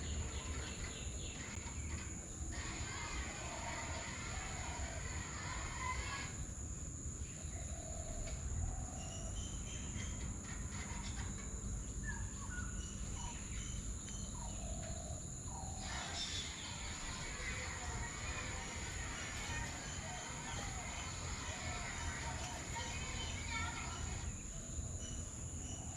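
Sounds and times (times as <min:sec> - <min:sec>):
birds chirping: 0:00.0 - 0:06.4, 0:07.2 - 0:25.9.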